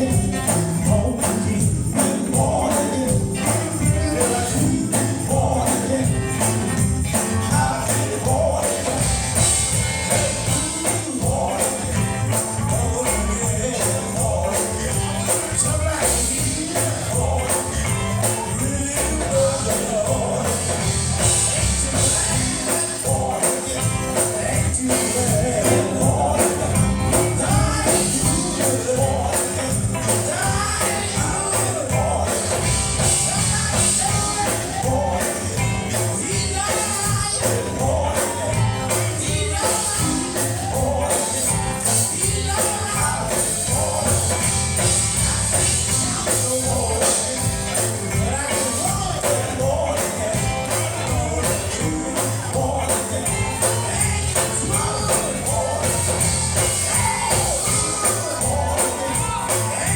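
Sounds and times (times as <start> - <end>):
band with drums: 0.0 - 59.9
jingling tambourine: 0.0 - 59.9
voices singing gospel song: 0.0 - 59.9.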